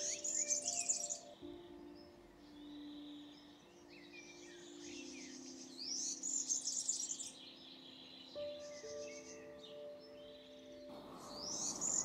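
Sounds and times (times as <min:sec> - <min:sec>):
small birds singing: 0:00.0 - 0:12.0
soft music of held notes: 0:00.0 - 0:12.0.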